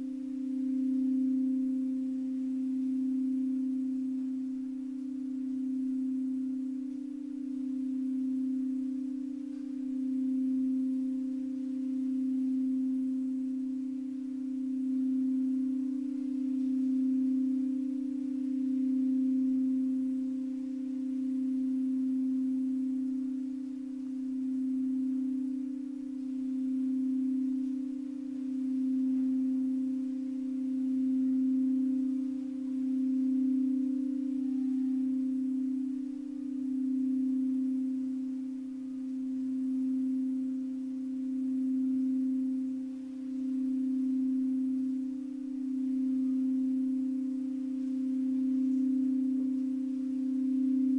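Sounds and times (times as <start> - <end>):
singing bowl sustained tone: 0.0 - 50.9.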